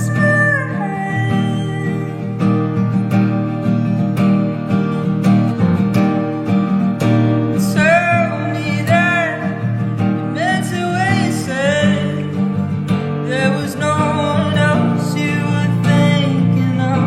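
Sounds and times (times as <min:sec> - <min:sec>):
song with acoustic guitar strumming: 0:00.0 - 0:17.0.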